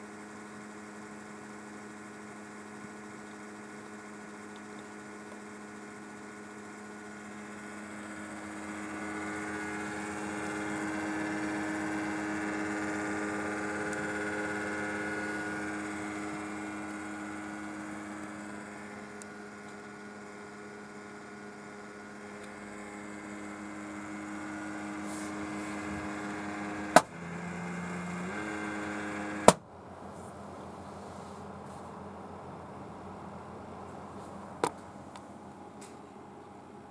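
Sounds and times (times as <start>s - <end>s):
computer fan droning: 0.0s - 36.9s.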